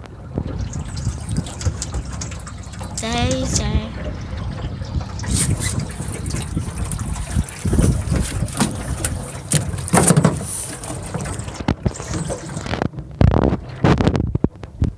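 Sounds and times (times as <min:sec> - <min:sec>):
water sloshing: 0:00.0 - 0:13.9
wind rumbling on microphone: 0:00.0 - 0:14.9.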